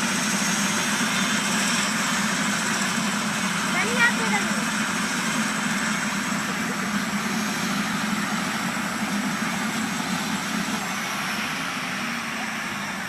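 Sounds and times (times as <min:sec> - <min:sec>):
constant rushing hiss: 0:00.0 - 0:13.0
helicopter engine and rotor drone: 0:00.0 - 0:13.0.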